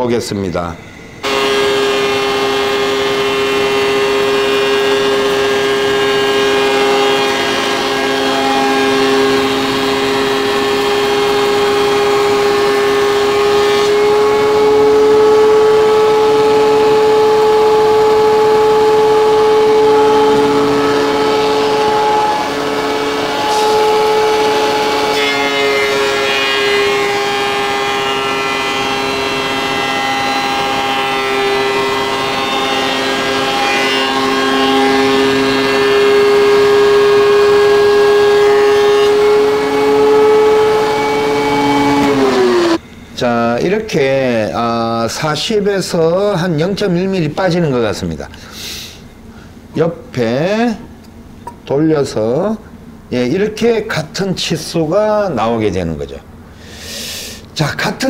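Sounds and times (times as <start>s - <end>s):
thickness planer whining: 0.9s - 47.6s.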